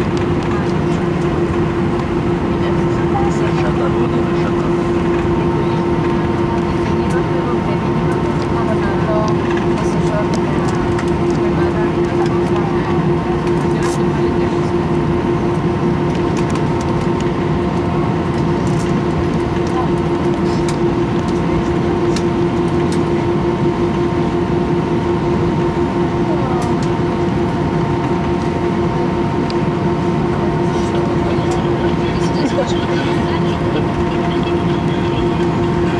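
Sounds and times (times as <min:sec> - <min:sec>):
air-conditioning running: 0:00.0 - 0:35.9
jet engines idling: 0:00.0 - 0:35.9.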